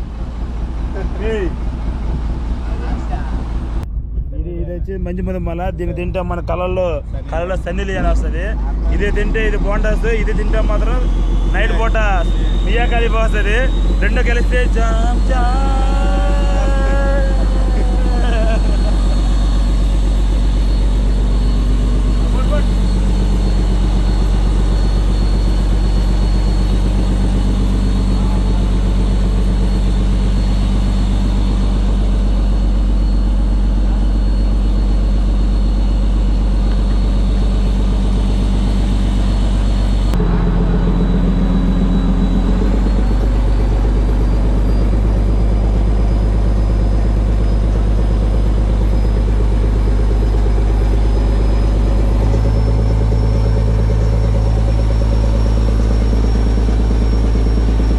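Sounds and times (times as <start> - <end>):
boat engine running loudly: 0.0 - 57.9.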